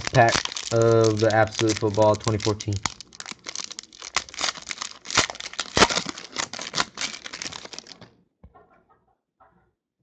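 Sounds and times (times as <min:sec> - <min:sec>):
foil pack tearing and crinkling: 0:00.0 - 0:08.1.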